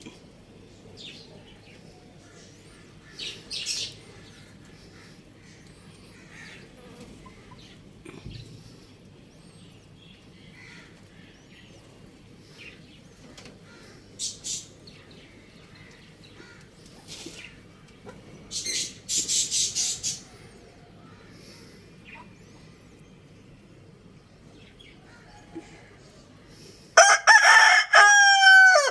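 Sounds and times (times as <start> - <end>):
birds chirping faintly: 0.0 - 26.9.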